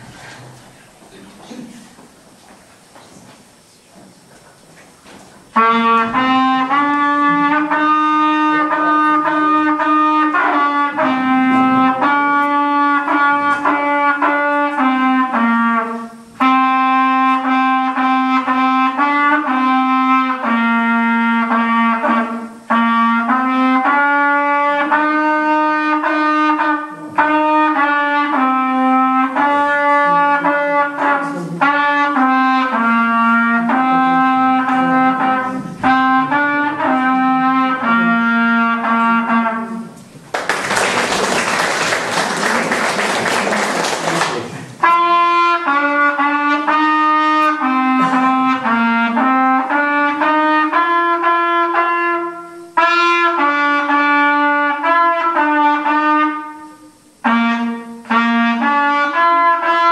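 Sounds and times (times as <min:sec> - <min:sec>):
solo trumpet melody: 0:05.5 - 0:44.0, 0:44.8 - 0:59.9.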